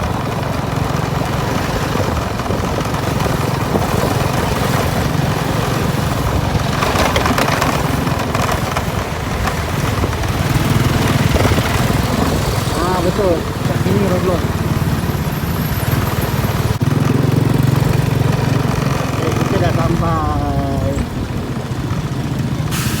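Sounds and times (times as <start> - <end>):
motorcycle engine running: 0.0 - 23.0
rush of road or wind noise: 0.0 - 23.0.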